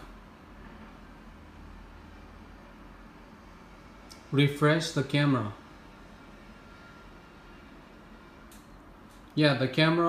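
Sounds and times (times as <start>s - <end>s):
low hiss and hum: 0.0s - 10.0s.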